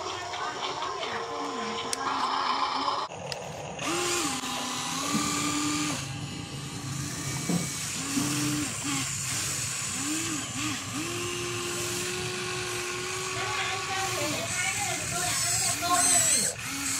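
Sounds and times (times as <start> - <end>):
electric motors whining: 0.0 - 16.9.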